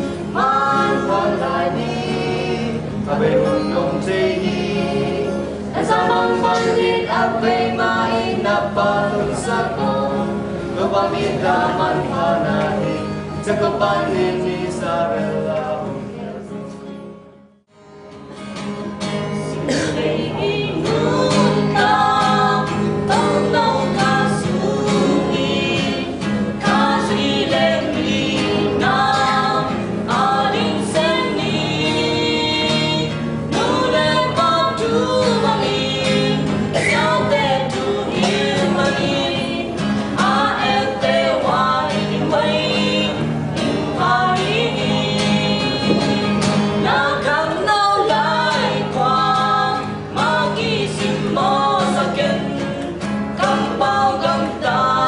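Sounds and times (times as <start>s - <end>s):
man and woman singing duet: 0.0s - 16.7s, 19.0s - 55.0s
acoustic guitar: 0.0s - 55.0s.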